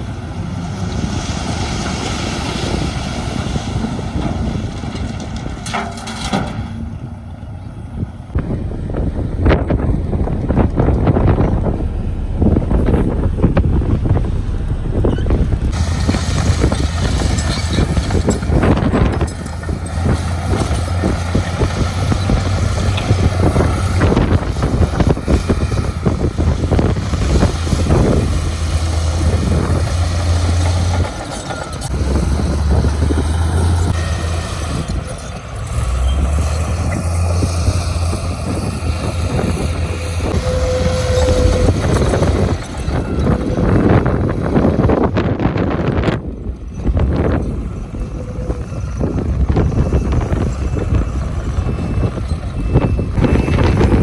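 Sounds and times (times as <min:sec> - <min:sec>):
diesel machinery engine drone: 0:00.0 - 0:54.0
wind noise on microphone: 0:00.0 - 0:54.0.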